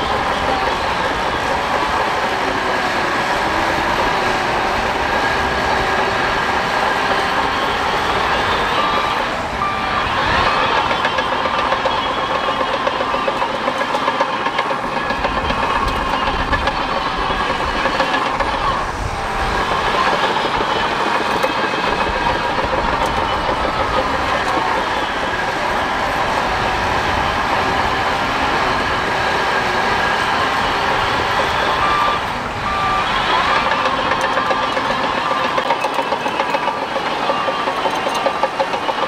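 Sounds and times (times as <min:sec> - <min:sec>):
bulldozer engine running: 0:00.0 - 0:39.0
steel tracks clattering and squealing: 0:00.0 - 0:39.0.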